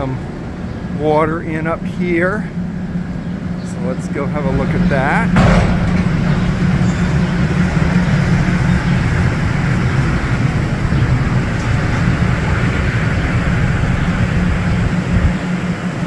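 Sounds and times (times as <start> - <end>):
steam locomotive low hum: 0.0 - 16.0.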